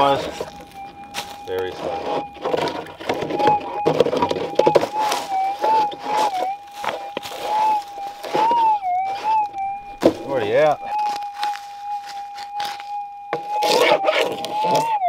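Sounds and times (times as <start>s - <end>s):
digging in gravelly ground: 0.0s - 15.0s.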